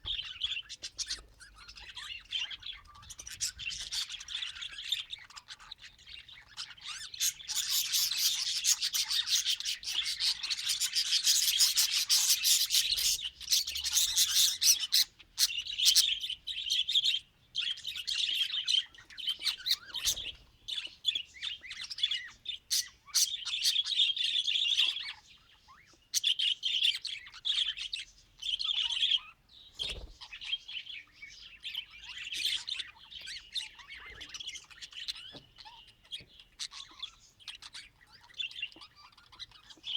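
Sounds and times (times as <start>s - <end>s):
budgerigar chirping and chattering: 0.0s - 39.9s.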